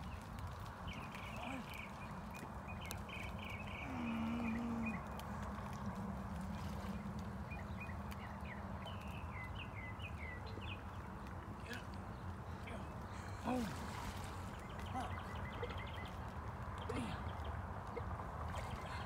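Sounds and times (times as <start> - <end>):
small birds chirping: 0.0 - 19.0
steady outdoor rush: 0.0 - 19.0.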